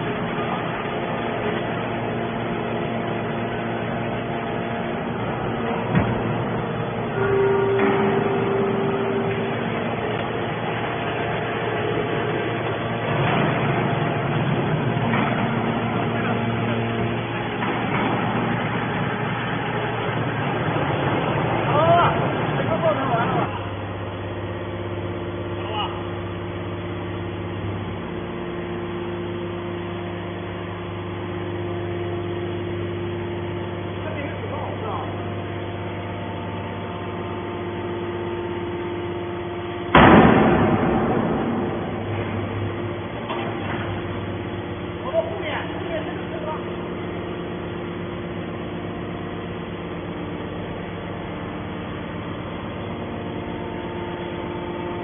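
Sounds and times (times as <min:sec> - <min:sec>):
hydraulic baler mechanical drone: 0:00.0 - 0:55.0.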